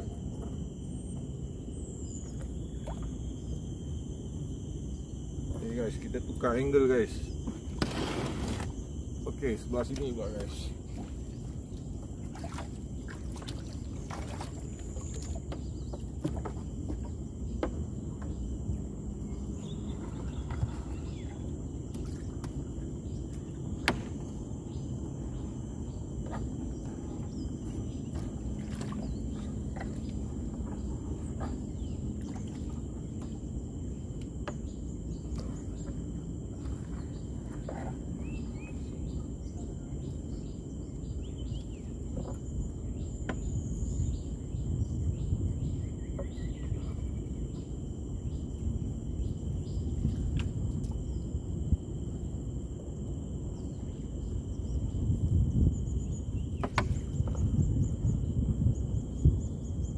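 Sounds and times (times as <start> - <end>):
insects droning: 0.0 - 59.9
low rumble of wind or water: 0.0 - 59.9.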